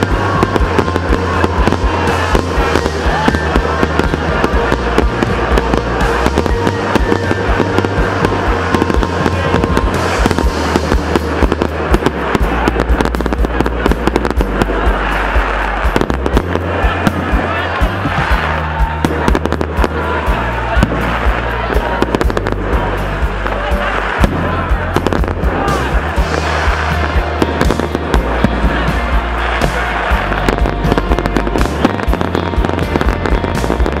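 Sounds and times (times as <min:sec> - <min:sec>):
fireworks bursting and crackling: 0:00.0 - 0:34.0
music playing: 0:00.0 - 0:34.0.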